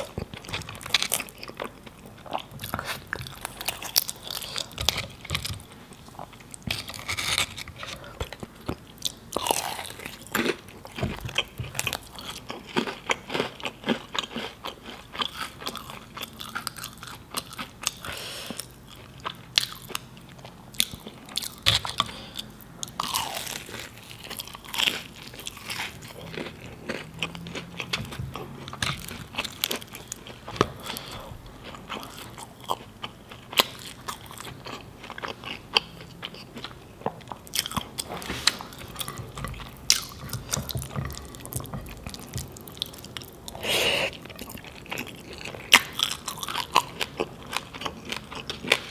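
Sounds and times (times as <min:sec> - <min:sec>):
pastry crunching while chewing: 0:00.0 - 0:48.9.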